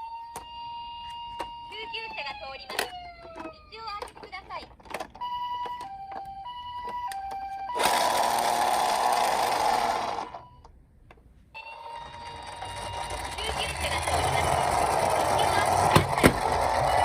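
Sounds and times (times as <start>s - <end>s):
toy two-tone siren: 0.0s - 4.1s, 5.2s - 10.7s, 11.6s - 17.0s.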